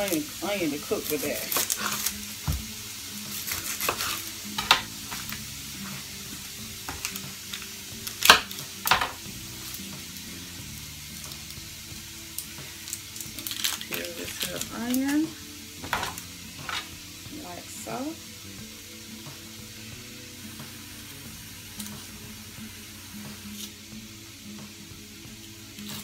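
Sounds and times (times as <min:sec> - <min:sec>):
sausage sizzling in skillet: 0:00.0 - 0:26.0.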